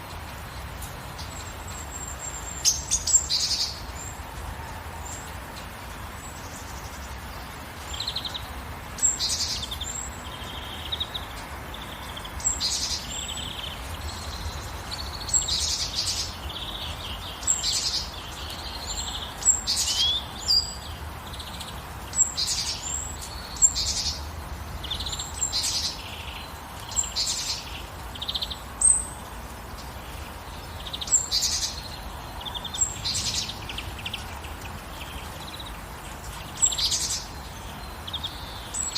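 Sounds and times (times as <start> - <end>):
rain hissing: 0.0 - 38.9
songbirds chirping: 0.0 - 38.9.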